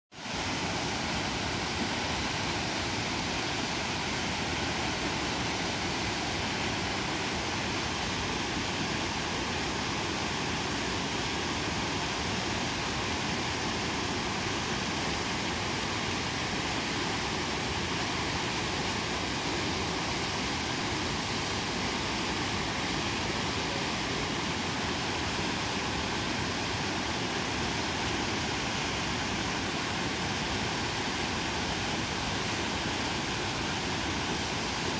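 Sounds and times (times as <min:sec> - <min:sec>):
whitewater rapids rushing: 0:00.2 - 0:34.9.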